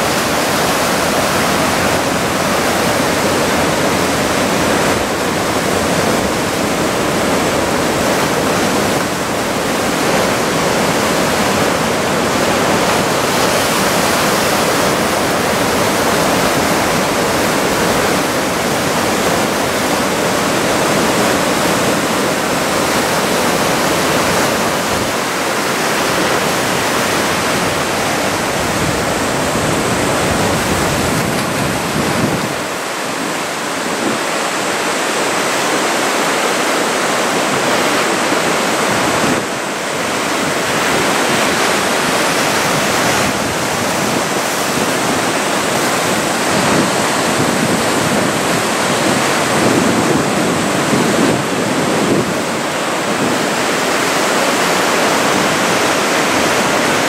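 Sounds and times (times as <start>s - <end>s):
heavy surf breaking: 0.0s - 57.0s
wind on microphone: 0.0s - 57.0s.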